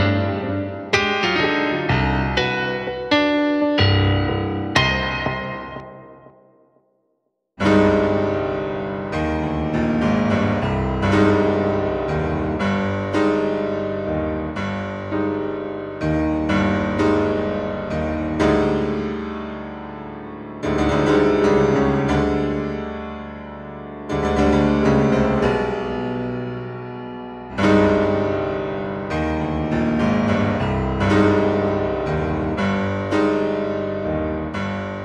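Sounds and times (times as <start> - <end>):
piano chords: 0.0 - 7.0, 7.6 - 35.0.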